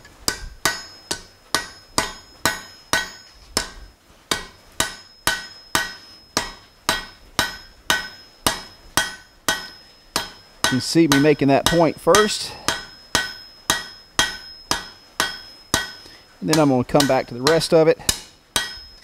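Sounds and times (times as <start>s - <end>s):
hammer striking hot steel on anvil: 0.0s - 19.0s.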